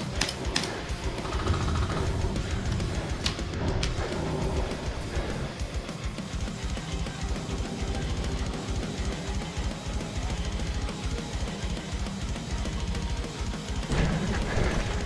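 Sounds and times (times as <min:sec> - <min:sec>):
rock music with drums and guitar: 0:00.0 - 0:15.0.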